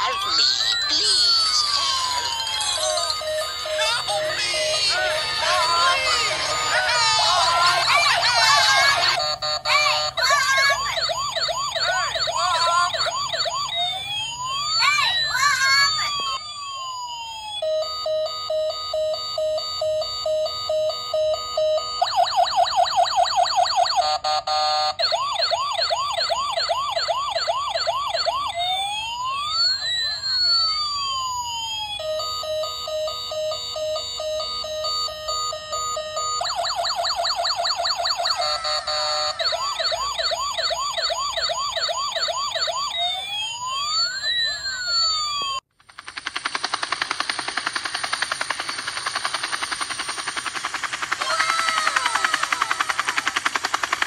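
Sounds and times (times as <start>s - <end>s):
toy electronic siren: 0.0s - 45.6s, 46.7s - 54.0s.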